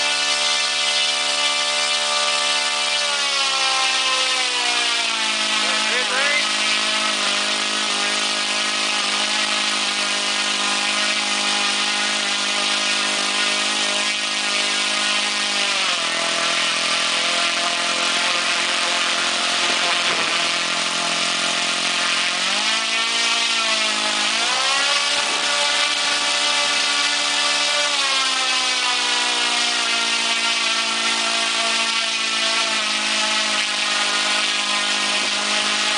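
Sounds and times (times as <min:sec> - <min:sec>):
model aircraft engine running: 0:00.0 - 0:35.9.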